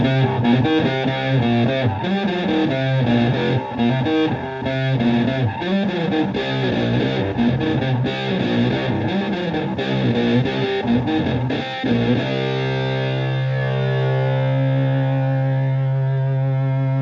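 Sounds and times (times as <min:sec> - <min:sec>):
fuzzed electric guitar riff: 0:00.0 - 0:17.0.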